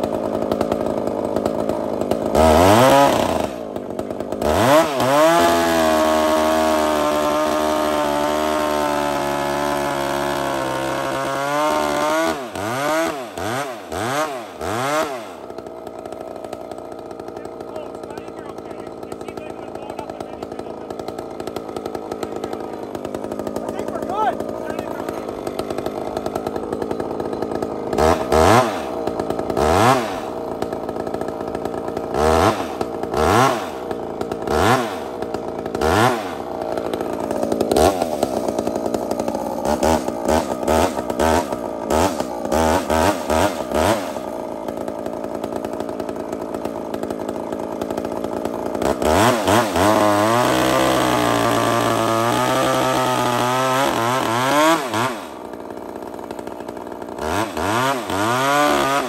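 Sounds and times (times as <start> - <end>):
chainsaw cutting into timber: 0.0 - 59.0
chainsaw revving: 0.0 - 59.0.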